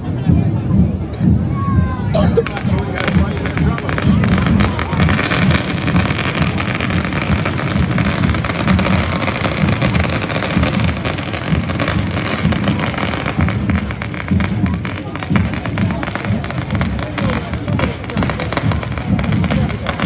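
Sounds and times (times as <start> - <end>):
crowd noise: 0.0 - 20.0
firework crackles: 2.5 - 20.0.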